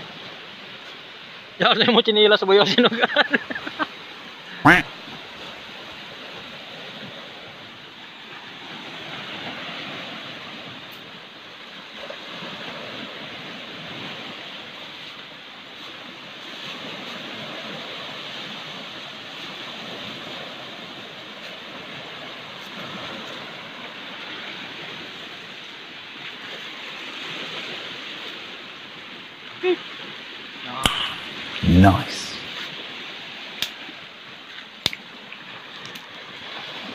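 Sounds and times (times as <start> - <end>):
waves washing onto rocky shore: 0.0 - 36.9.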